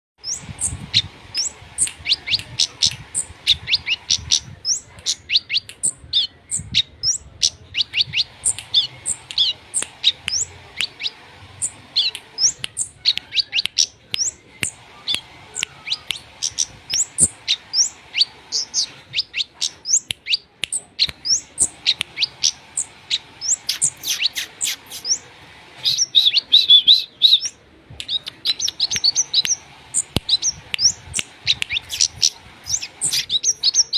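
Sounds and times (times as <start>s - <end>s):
songbird chirping and warbling: 0.2s - 33.9s.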